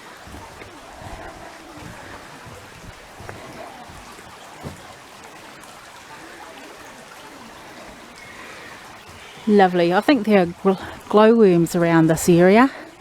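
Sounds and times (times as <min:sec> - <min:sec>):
stream water trickling: 0:00.0 - 0:13.0.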